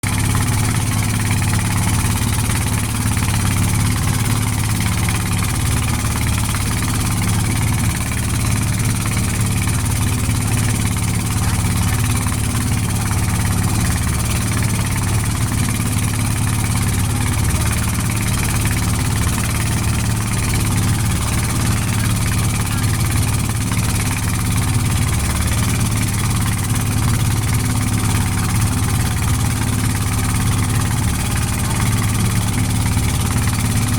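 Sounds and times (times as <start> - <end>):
boat engine humming: 0.0 - 33.9.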